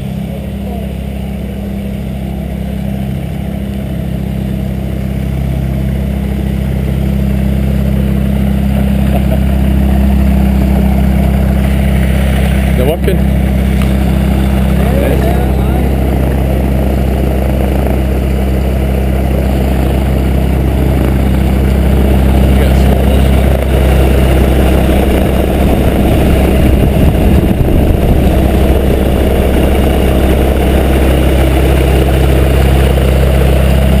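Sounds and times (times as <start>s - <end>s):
light aircraft engine running: 0.0s - 34.0s.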